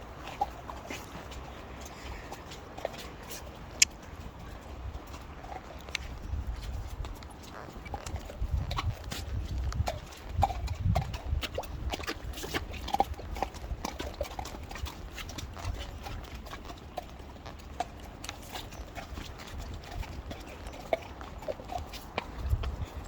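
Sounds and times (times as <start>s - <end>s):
horse hoofbeats: 0.0s - 23.0s.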